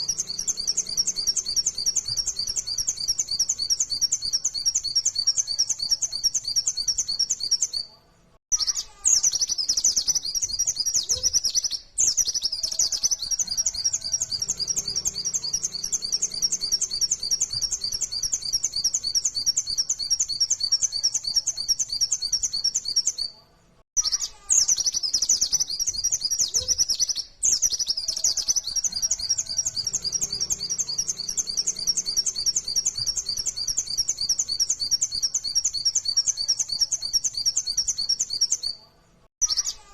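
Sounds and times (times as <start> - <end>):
bird singing rapid high notes: 0.0 - 7.9, 8.5 - 23.3, 24.0 - 38.8.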